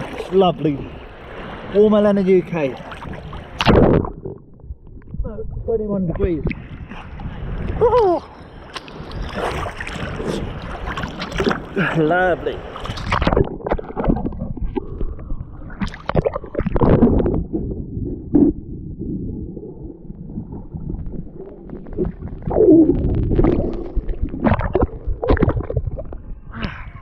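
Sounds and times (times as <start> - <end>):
water splashing: 0.0 - 5.0, 6.1 - 18.6, 19.4 - 26.4
water sloshing and gurgling: 0.0 - 27.0.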